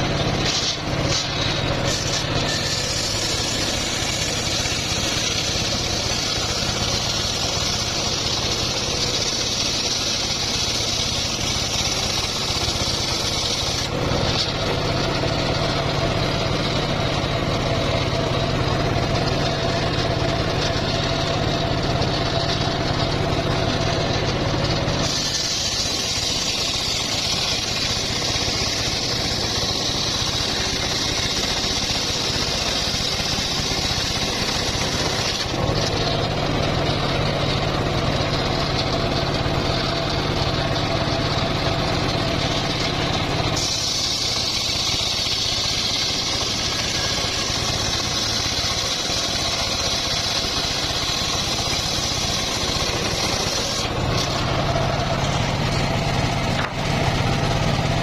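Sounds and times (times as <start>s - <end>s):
hissing saw blade: 0.0s - 37.8s, 38.6s - 58.0s
engine hum: 0.0s - 58.0s.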